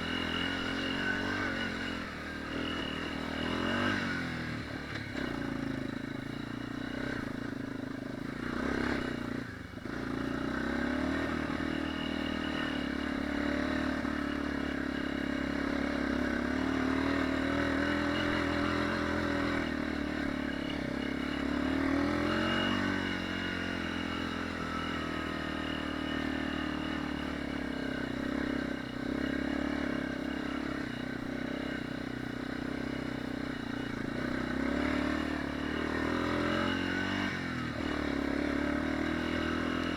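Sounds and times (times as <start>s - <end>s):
dirt bike engine revving: 0.0s - 7.4s, 8.3s - 39.9s.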